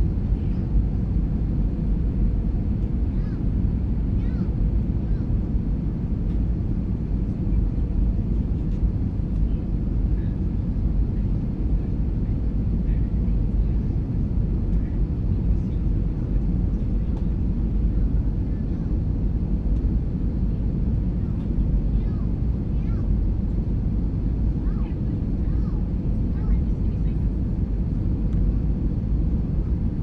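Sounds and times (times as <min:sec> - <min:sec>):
aircraft cabin engine rumble: 0:00.0 - 0:30.0.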